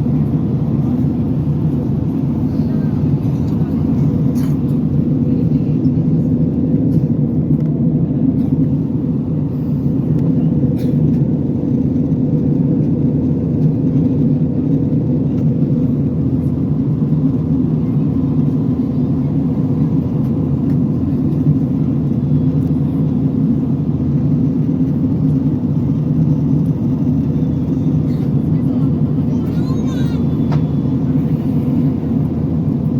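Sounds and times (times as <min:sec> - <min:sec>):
airliner cabin engine drone: 0:00.0 - 0:32.9.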